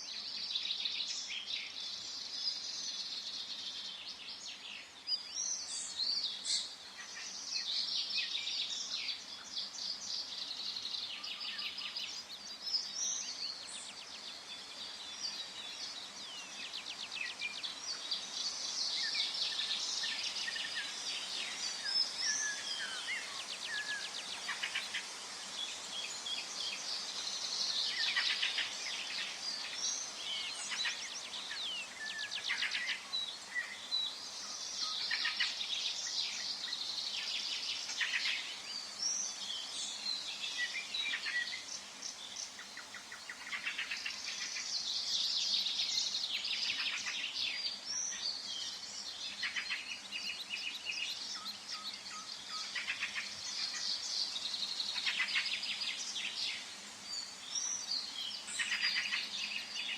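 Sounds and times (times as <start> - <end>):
birds singing and chirping: 0.0 - 59.9
faint steady hiss: 0.0 - 59.9.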